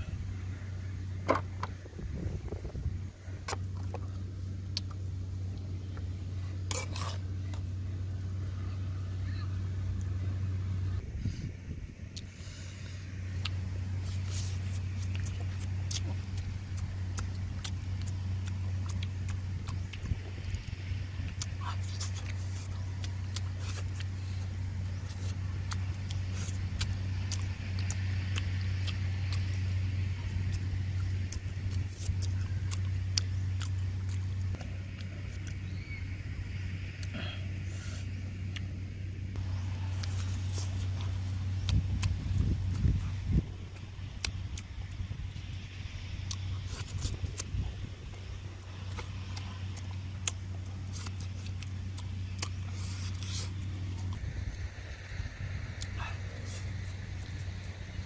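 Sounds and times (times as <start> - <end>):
low hum: 0.0 - 58.0
man chewing and lip smacking: 3.3 - 8.7, 12.1 - 58.0.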